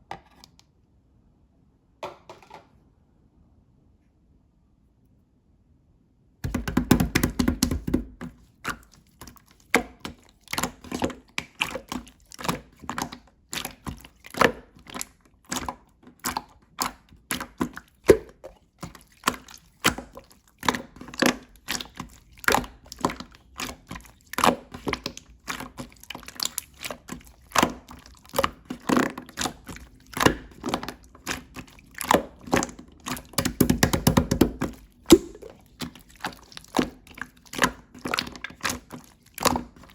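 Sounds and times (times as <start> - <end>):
slime clicking and squelching: 6.4 - 39.9.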